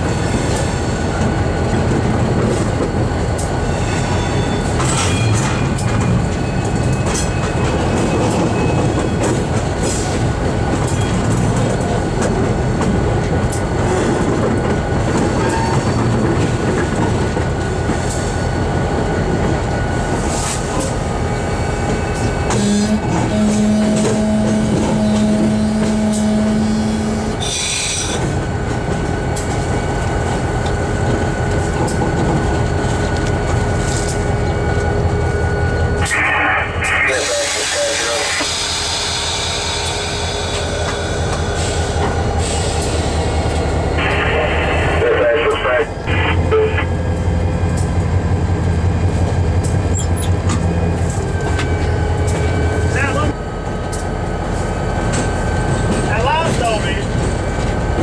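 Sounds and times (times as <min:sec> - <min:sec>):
locomotive rumble: 0:00.0 - 0:58.0.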